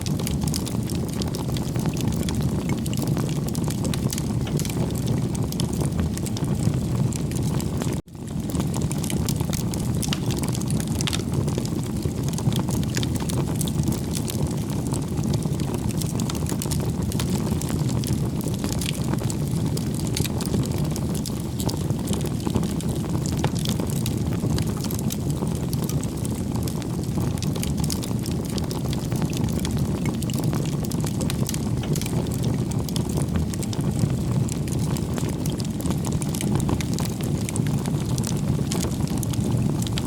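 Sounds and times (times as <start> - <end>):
burning wood crackling: 0.0 - 40.0
fire flames rumbling: 0.0 - 40.0.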